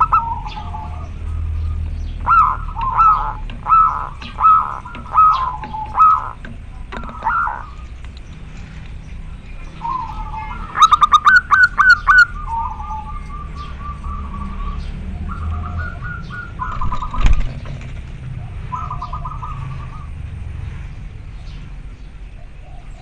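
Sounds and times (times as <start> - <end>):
dove cooing: 0.0 - 8.8, 9.6 - 20.4, 22.4 - 23.0.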